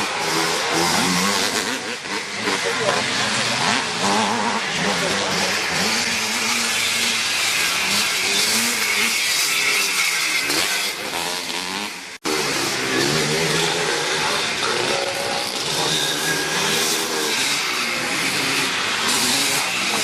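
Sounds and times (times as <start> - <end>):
motocross engines revving: 0.0 - 20.0.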